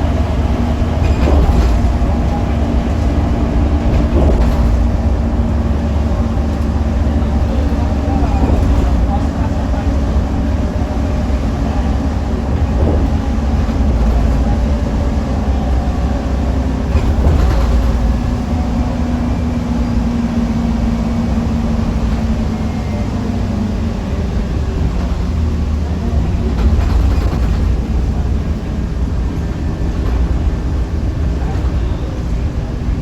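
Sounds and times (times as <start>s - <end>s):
bus diesel engine rumbling: 0.0s - 33.0s.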